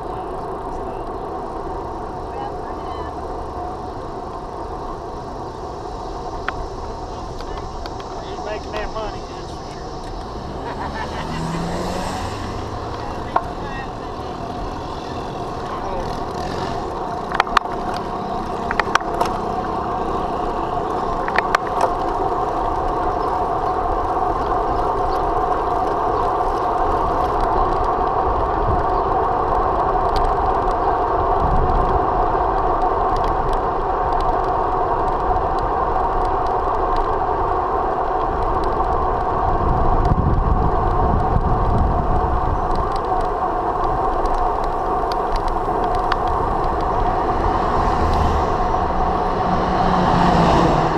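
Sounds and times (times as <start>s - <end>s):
road noise rumble: 0.0s - 50.9s.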